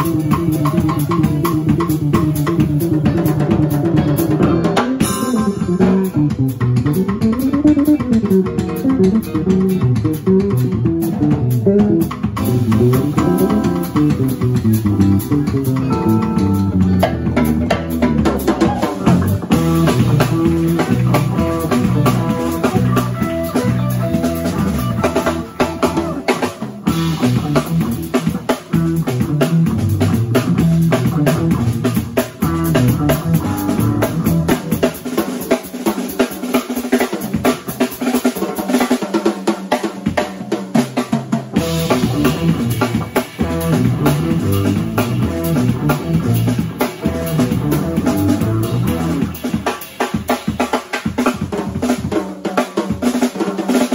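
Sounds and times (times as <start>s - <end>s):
electric bass: 0.0s - 36.3s, 41.5s - 50.6s
drum kit: 0.0s - 53.9s
electric guitar: 0.0s - 53.9s.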